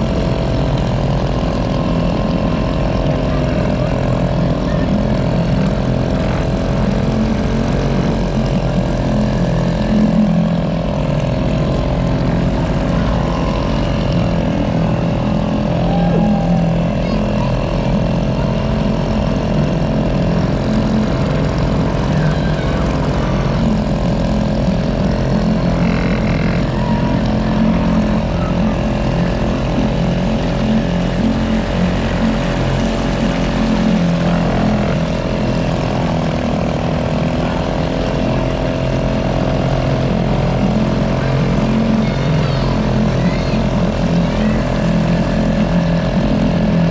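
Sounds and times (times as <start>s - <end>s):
boat motor humming: 0.0s - 46.9s.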